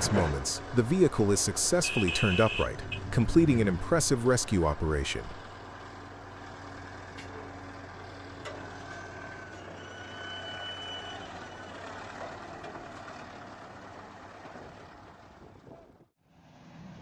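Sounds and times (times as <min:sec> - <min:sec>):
heavy equipment engines running: 0:00.0 - 0:16.1.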